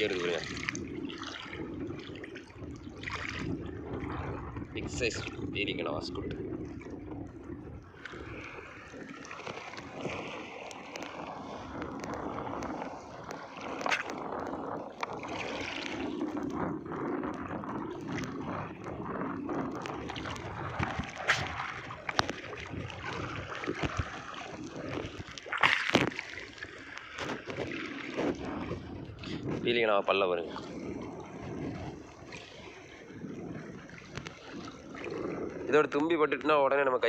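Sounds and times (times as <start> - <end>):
water splashing and sloshing: 0.0 - 37.0.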